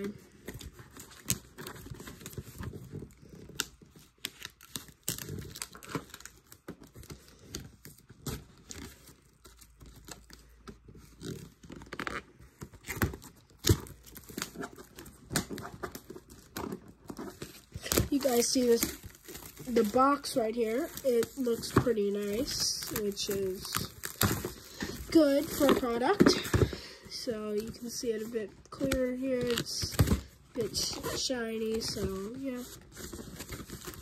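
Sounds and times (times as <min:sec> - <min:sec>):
plastic shrink wrap crinkling: 0:00.0 - 0:34.0.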